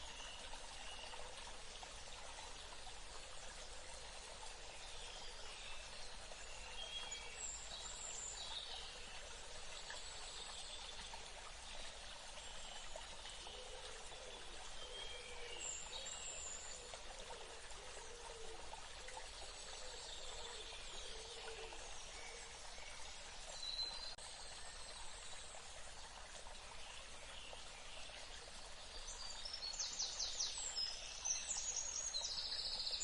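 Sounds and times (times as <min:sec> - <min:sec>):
stream water running: 0:00.0 - 0:33.0.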